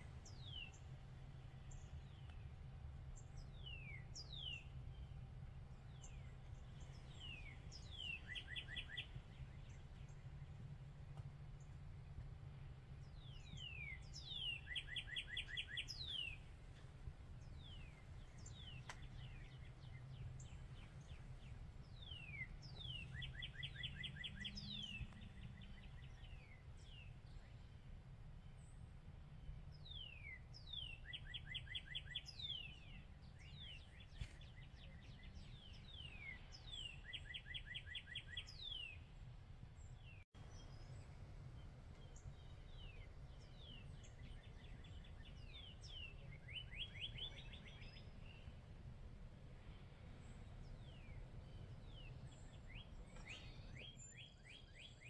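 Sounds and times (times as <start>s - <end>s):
faint low rumble: 0.0s - 55.0s
songbird chirping and trilling: 0.0s - 55.0s.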